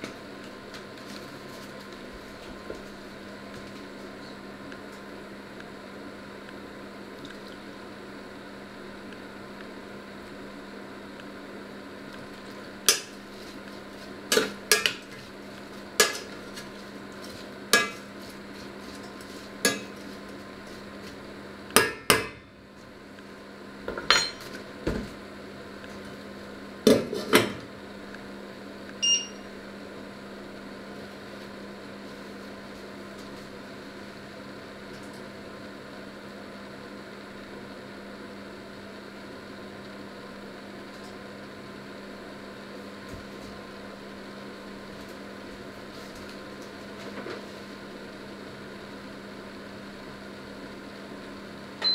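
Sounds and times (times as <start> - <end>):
steady hum: 0.0 - 51.9.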